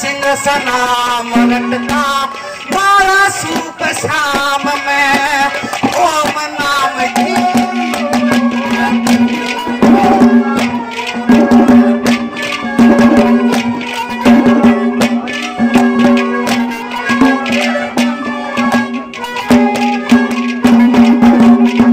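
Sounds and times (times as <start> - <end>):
hand drums playing fast: 0.0 - 21.9
held melodic note: 0.0 - 21.9.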